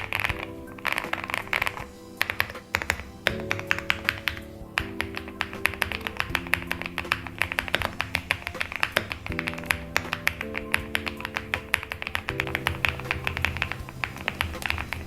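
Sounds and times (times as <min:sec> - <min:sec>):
background music with held chords: 0:00.0 - 0:15.0.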